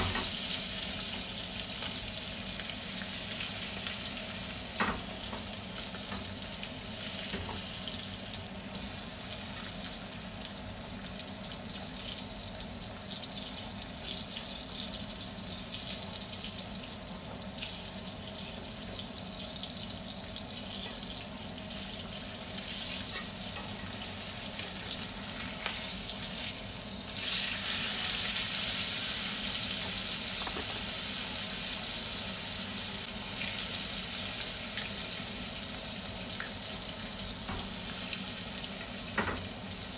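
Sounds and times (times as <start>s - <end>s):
steak sizzling in skillet: 0.0s - 39.9s.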